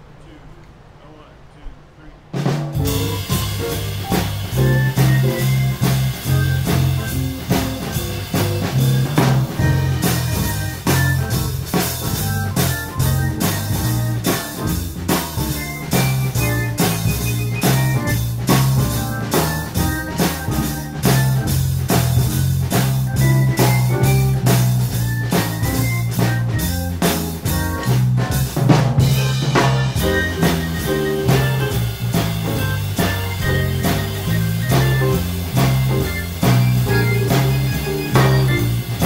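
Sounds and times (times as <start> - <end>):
drum kit beat: 2.3 - 39.0
keyboard: 2.7 - 39.0
walking bass line: 2.7 - 39.0.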